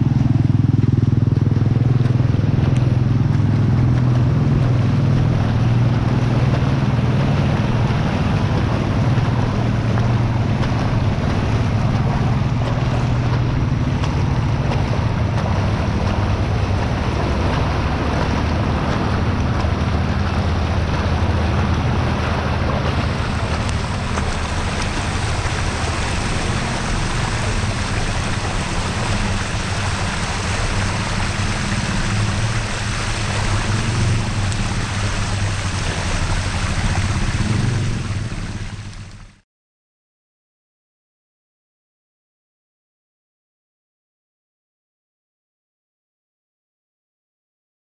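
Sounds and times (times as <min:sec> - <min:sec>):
bicycle tyres splashing through water: 0:00.0 - 0:39.4
wind rumbling on microphone: 0:00.0 - 0:39.4.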